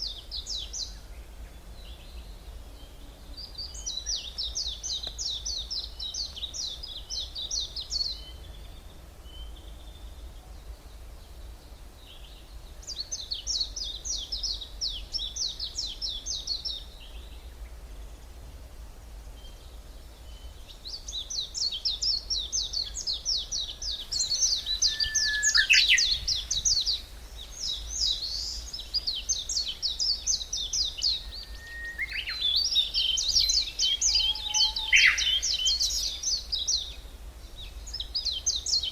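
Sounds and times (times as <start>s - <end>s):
songbirds trilling: 0.0s - 18.2s, 19.4s - 38.9s.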